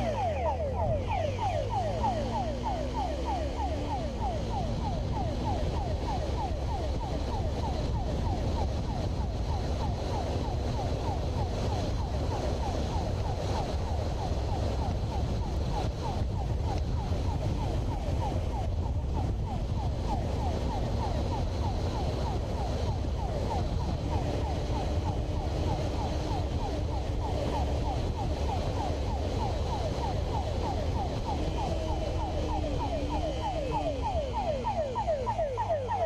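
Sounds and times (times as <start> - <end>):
electronic siren yelping: 0.0 - 36.0
wind rush: 0.0 - 36.0.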